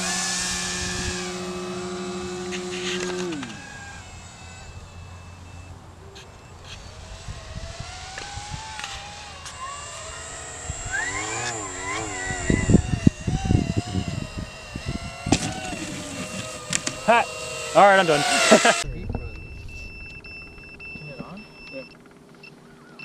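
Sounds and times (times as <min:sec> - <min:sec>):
electric motor and propeller whine: 0:00.0 - 0:22.8.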